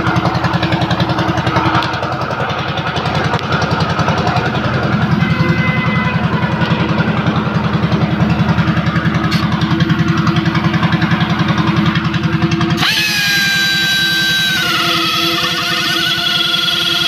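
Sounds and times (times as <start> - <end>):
high steady whine: 0.0 - 17.0
small engine idling: 0.0 - 17.0.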